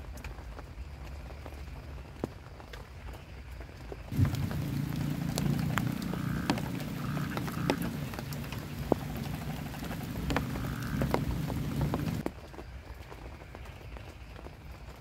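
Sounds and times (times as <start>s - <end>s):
heavy rain on a tarp: 0.0s - 15.0s
raindrops ticking: 0.0s - 15.0s.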